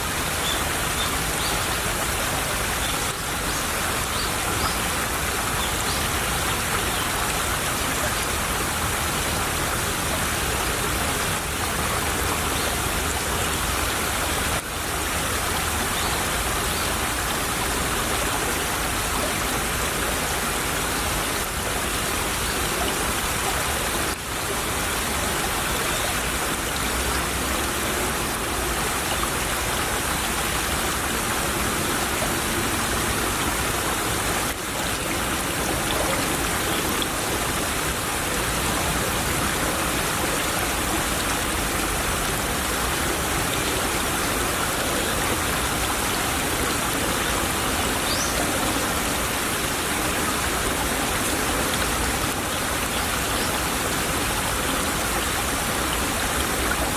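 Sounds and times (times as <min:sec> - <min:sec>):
stream babbling over rocks: 0:00.0 - 0:56.9.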